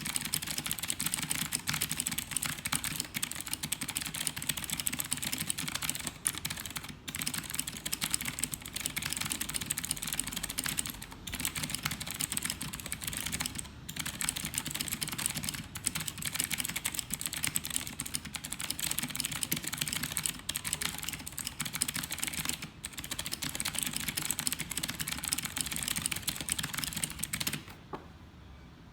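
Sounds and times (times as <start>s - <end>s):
clicky mechanical keyboard typing: 0.0s - 27.8s.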